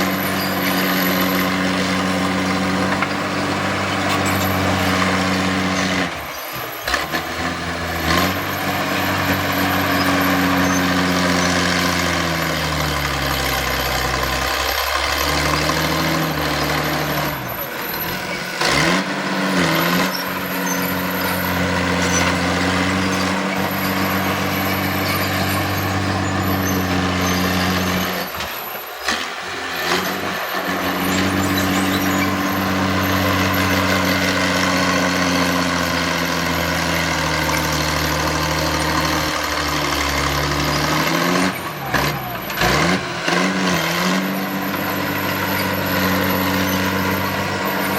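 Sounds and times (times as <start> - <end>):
heavy diesel machinery running: 0.0 - 47.9.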